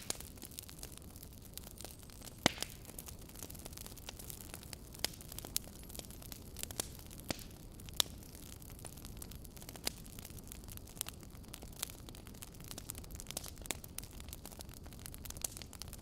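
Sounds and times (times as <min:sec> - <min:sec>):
flames rushing: 0:00.0 - 0:16.0
logs crackling and popping: 0:00.0 - 0:16.0.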